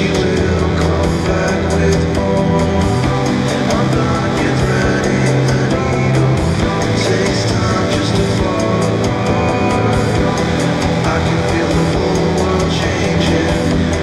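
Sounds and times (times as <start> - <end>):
rock song: 0.0 - 14.0.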